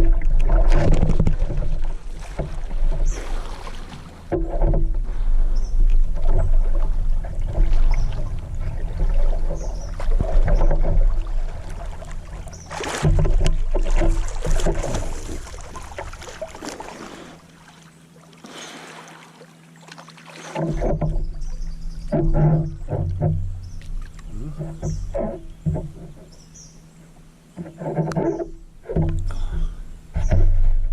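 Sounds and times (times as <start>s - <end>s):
water splashing around kayak: 0.0s - 30.9s.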